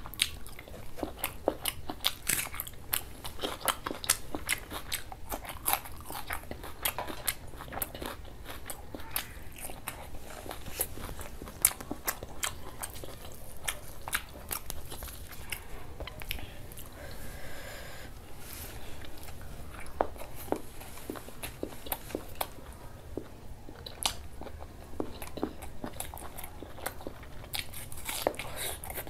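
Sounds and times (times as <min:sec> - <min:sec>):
person chewing with wet mouth sounds: 0:00.0 - 0:29.0.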